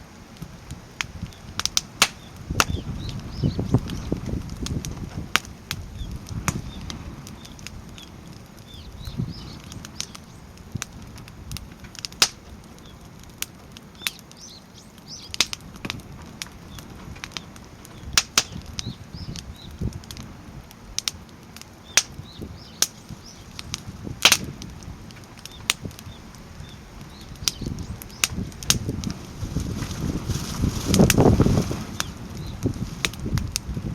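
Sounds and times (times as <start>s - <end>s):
firewood crackling and popping: 0.0s - 33.9s
low fire rumble: 0.0s - 33.9s.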